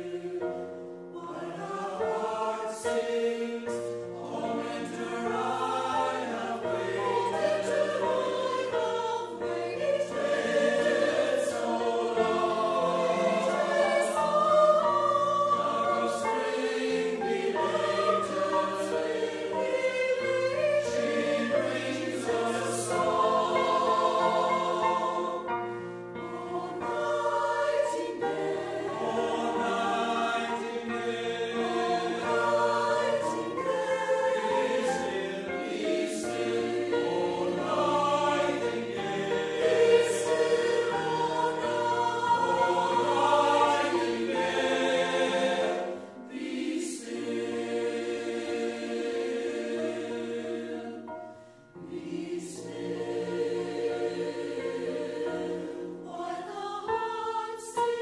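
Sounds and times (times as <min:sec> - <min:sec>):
choir singing: 0:00.0 - 0:58.0
piano accompaniment: 0:00.0 - 0:58.0.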